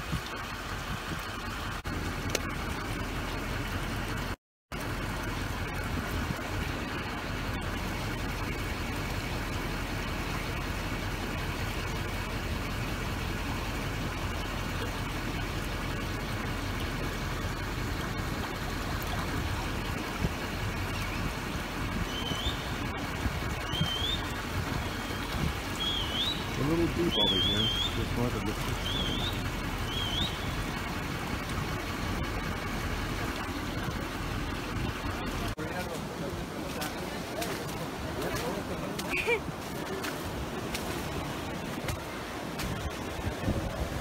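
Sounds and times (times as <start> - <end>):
moving water: 0.0 - 44.0
vehicle engine rumbling: 0.0 - 44.0.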